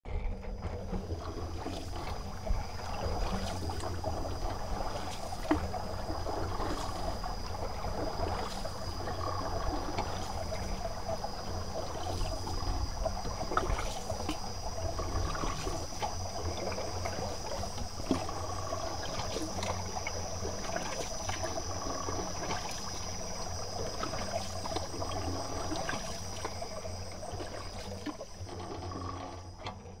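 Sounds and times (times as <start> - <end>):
small clicks and splashes: 0.1 - 30.0
water trickling and lapping: 0.1 - 30.0.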